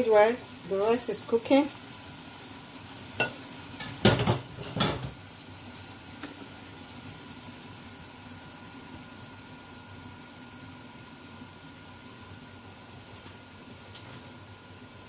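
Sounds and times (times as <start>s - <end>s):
pot sizzling: 0.0s - 15.0s.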